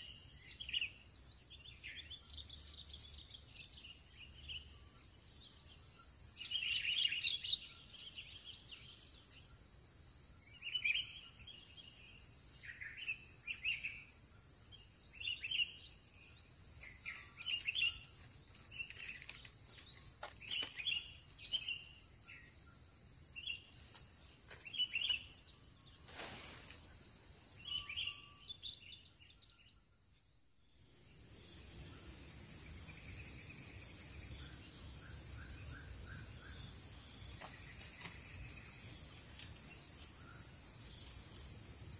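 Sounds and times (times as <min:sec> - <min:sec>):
crickets droning: 0:00.0 - 0:41.9
insect chirping calls: 0:00.0 - 0:41.9.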